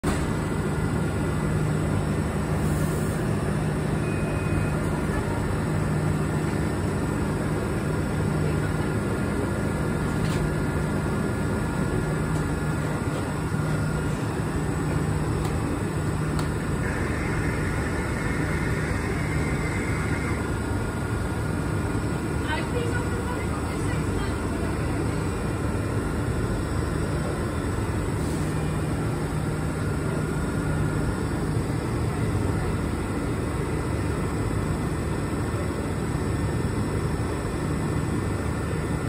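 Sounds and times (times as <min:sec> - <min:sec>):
electric train humming: 0:00.0 - 0:39.0.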